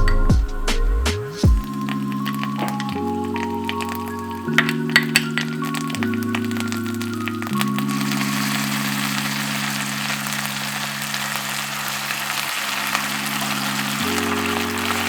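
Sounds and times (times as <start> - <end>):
soft music of held chords: 0.0 - 15.0
food sizzling in a frying pan: 1.6 - 15.0.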